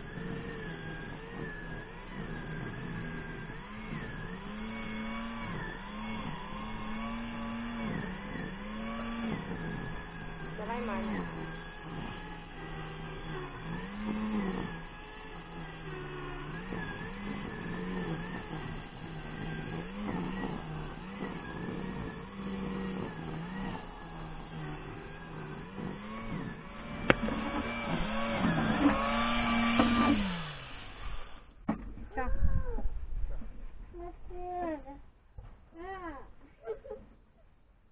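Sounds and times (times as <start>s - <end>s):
small petrol engine revving: 0.0s - 34.8s.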